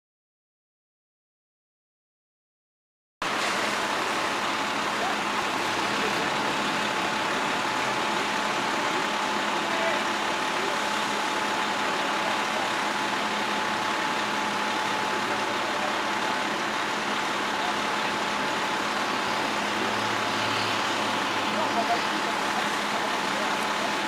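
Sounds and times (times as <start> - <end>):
vehicle engine running: 3.2 - 24.0.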